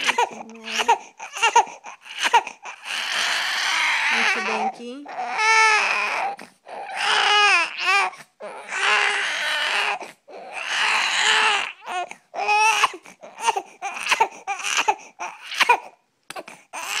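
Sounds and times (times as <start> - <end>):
baby crying: 0.0 - 17.0.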